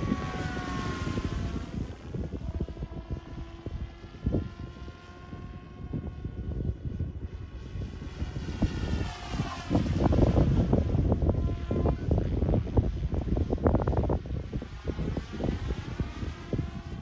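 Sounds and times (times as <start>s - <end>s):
model helicopter whine: 0.0s - 17.0s
wind buffeting microphone: 0.0s - 17.0s.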